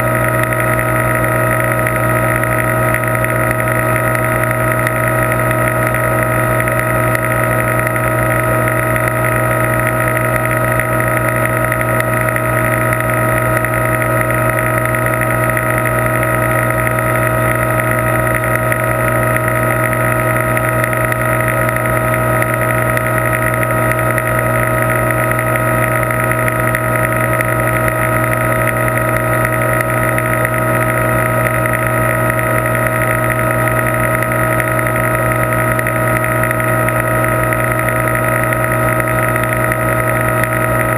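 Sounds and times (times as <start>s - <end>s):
steady machine hum: 0.0s - 40.9s.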